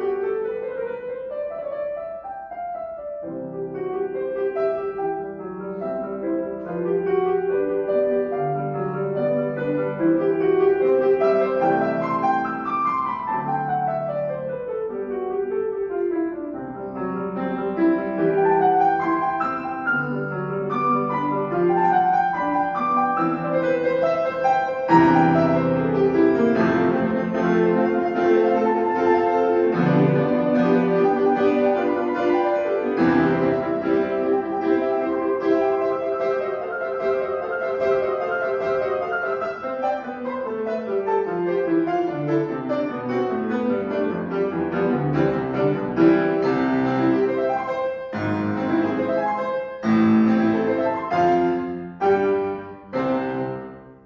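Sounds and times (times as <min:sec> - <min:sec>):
classical piano piece: 0:00.0 - 0:54.0.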